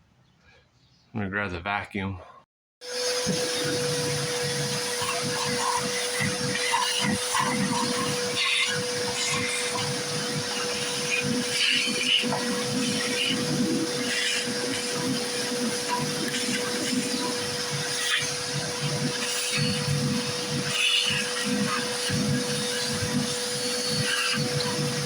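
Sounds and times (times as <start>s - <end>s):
vacuum cleaner whining: 2.8s - 25.0s.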